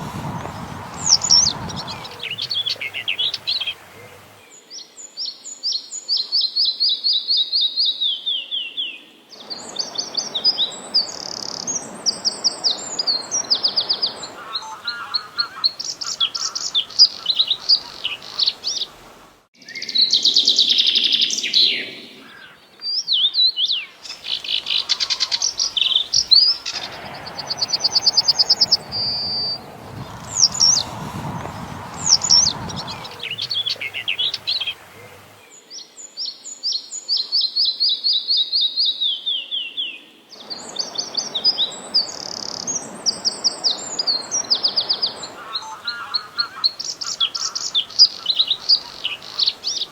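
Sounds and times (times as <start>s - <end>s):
soft steady hiss: 0.0s - 7.2s, 8.8s - 37.7s, 40.0s - 49.9s
songbirds singing and chirping: 0.0s - 49.9s.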